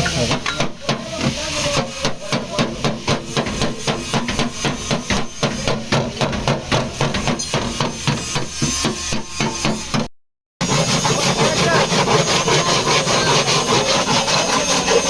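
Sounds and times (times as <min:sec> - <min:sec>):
hammer beating sheet metal: 0:00.0 - 0:15.0.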